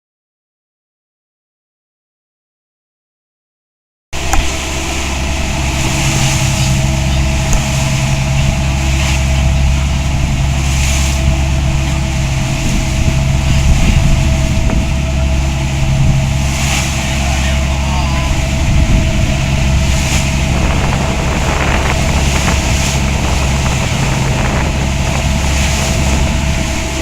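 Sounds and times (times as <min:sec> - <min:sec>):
boat engine running: 0:04.2 - 0:27.0
rushing wind and water: 0:04.2 - 0:27.0.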